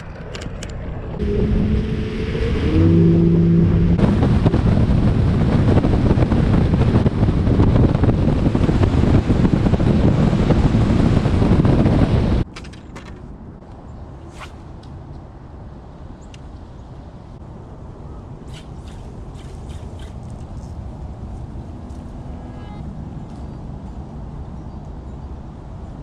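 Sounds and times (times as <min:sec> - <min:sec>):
wind rushing over microphone: 0:00.0 - 0:12.5, 0:13.3 - 0:26.0.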